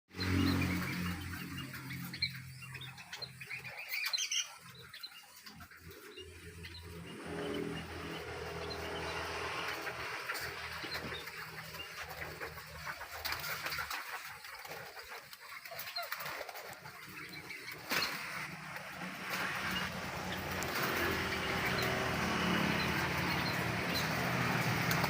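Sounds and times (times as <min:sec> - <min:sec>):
small birds chirping: 0:00.1 - 0:25.0.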